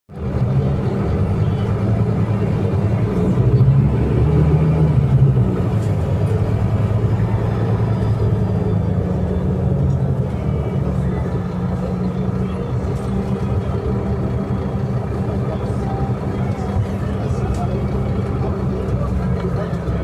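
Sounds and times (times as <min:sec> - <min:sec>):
bus diesel engine droning: 0:00.1 - 0:20.0.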